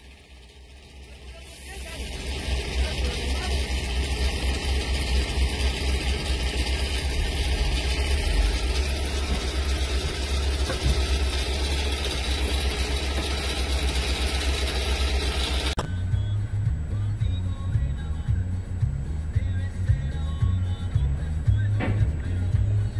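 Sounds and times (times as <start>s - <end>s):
vehicle engines idling: 0.0s - 22.9s.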